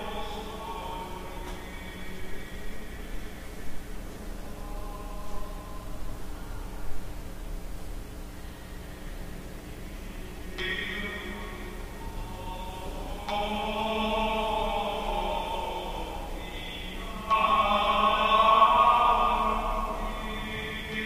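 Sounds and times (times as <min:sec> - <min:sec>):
church music chords: 0:00.0 - 0:06.1, 0:10.0 - 0:21.0.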